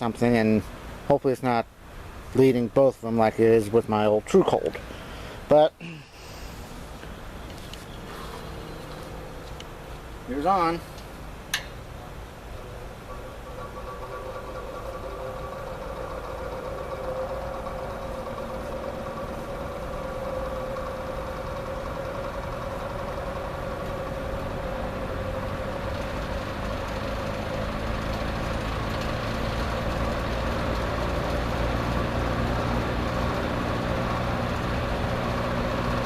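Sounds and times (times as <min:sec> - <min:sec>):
box fan humming and whirring: 0:00.0 - 0:36.0.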